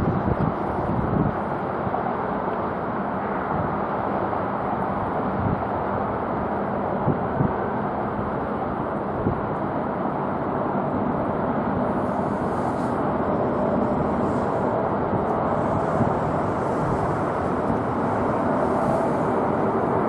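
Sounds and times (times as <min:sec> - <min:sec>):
faint steady whine: 0:00.0 - 0:20.0
jet engines flying past: 0:00.0 - 0:20.0.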